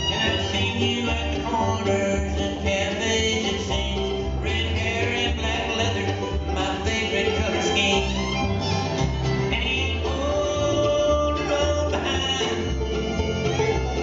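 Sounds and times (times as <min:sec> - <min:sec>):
bluegrass band playing: 0:00.0 - 0:14.0.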